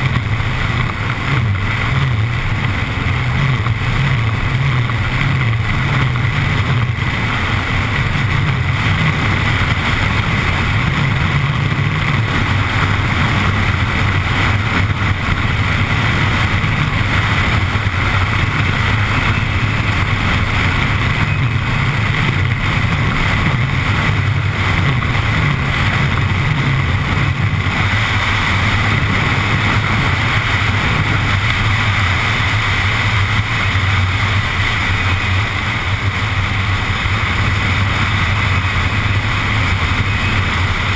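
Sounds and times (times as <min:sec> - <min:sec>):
wheels rumbling on asphalt: 0:00.0 - 0:40.9
wind on microphone: 0:00.0 - 0:40.9.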